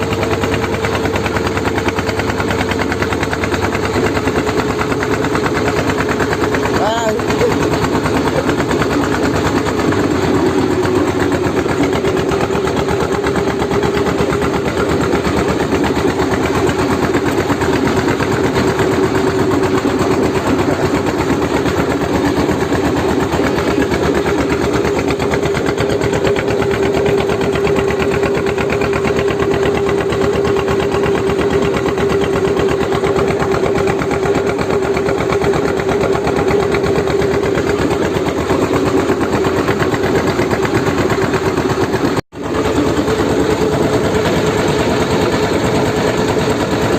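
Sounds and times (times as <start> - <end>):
small engine running steadily: 0.0 - 46.9.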